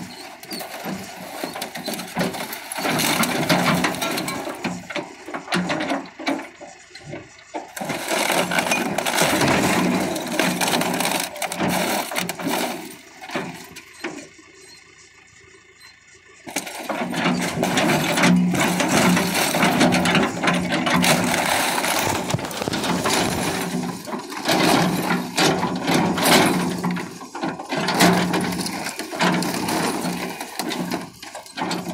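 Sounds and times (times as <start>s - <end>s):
plastic and metal crushing: 0.0s - 13.9s, 16.5s - 31.9s
diesel engine under load: 0.0s - 31.9s.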